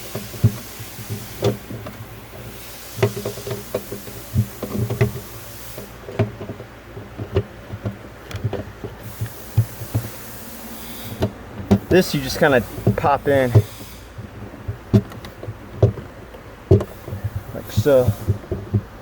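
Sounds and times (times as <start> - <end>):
cable and plastic fittings knocking: 0.0 - 10.4, 11.0 - 19.0.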